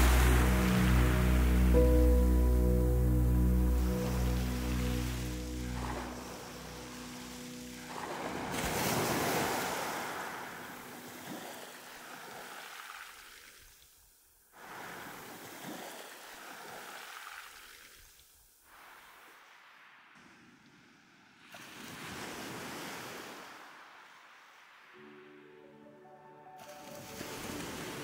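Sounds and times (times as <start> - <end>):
small waves breaking on beach: 0.0 - 2.1, 4.0 - 25.4, 26.6 - 28.0.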